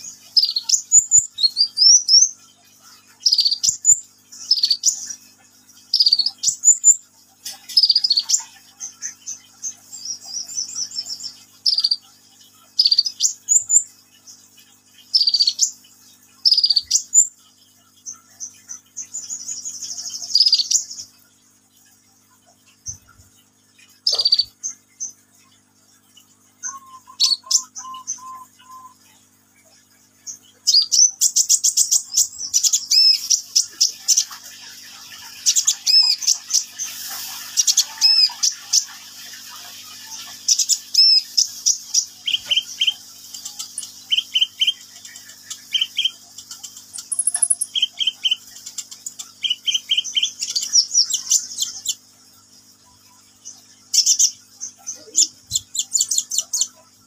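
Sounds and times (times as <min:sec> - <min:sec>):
bird chirping and trilling: 0:00.0 - 0:21.3, 0:23.8 - 0:57.0.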